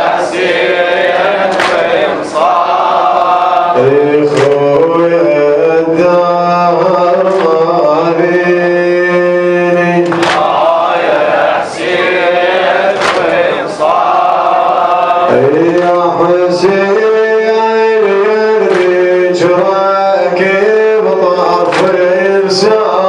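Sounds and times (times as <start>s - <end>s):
man chanting a lament: 2.2s - 12.6s, 13.6s - 23.0s.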